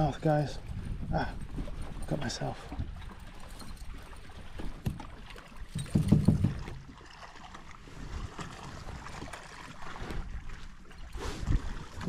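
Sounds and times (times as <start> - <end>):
water lapping around kayak: 0.0 - 12.0.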